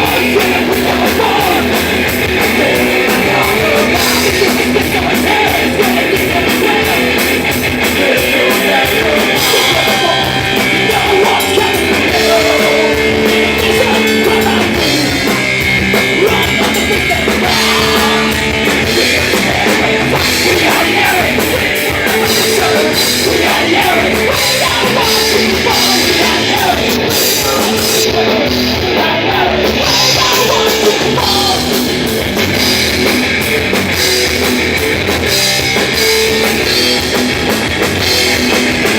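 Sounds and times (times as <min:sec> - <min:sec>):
drum kit: 0:00.0 - 0:38.9
electric guitars: 0:00.0 - 0:38.9
live rock band: 0:00.0 - 0:38.9.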